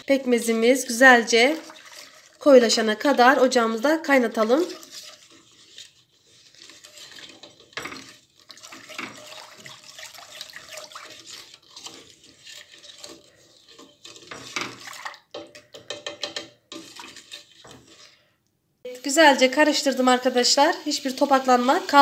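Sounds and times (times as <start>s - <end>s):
whisk beating batter in a pot: 0.0s - 18.3s, 19.0s - 22.0s.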